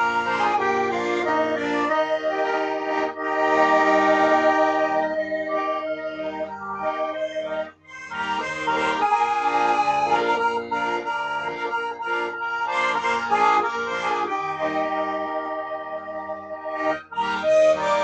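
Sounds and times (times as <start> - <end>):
accordion playing a tune: 0.0 - 18.0.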